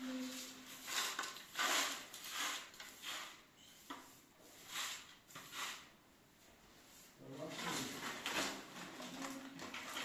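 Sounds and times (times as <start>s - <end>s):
broom sweeping tiled floor: 0.0s - 10.0s.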